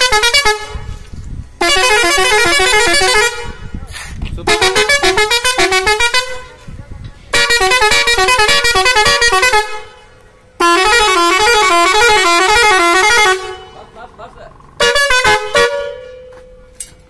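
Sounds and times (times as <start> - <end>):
musical air horn playing tune: 0.0 - 6.7, 7.3 - 14.0, 14.8 - 16.4.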